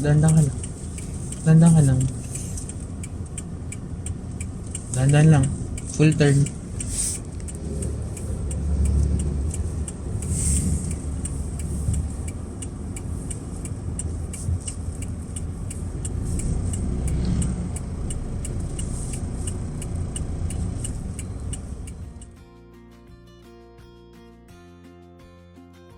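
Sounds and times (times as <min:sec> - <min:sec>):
car engine and road rumble: 0:00.0 - 0:22.4
turn signal ticking: 0:00.0 - 0:22.4.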